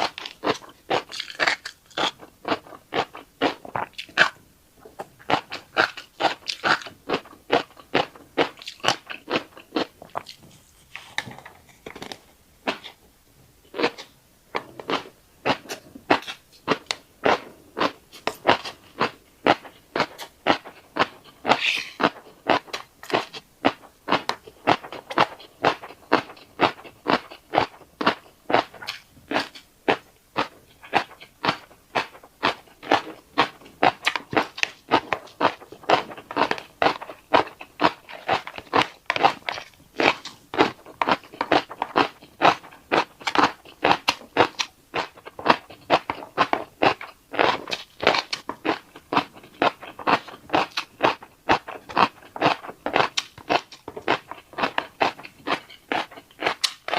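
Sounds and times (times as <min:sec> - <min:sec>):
chewing fish roe popping: 0:00.0 - 0:13.0, 0:13.7 - 0:56.9.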